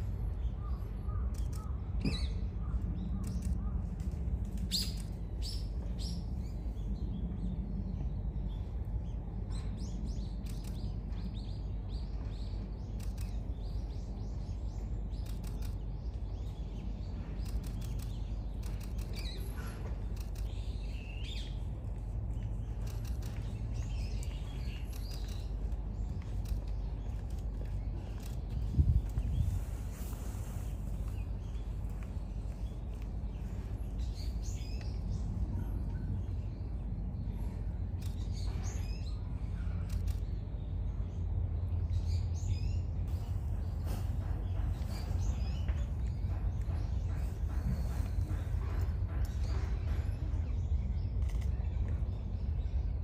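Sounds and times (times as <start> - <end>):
low background rumble: 0.0 - 53.0
small birds chirping: 0.0 - 53.0.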